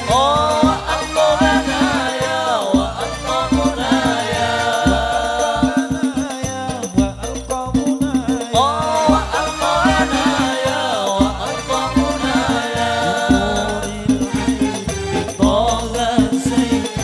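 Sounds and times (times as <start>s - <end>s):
frame drums beating: 0.0s - 17.0s
men singing: 0.0s - 17.0s.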